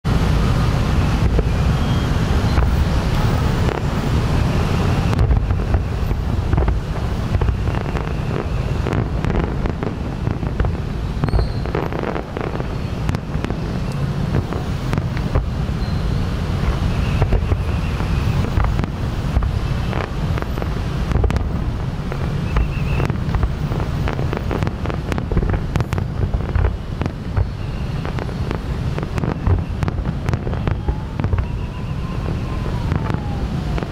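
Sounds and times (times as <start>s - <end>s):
fireworks bangs and crackles: 0.0s - 33.9s.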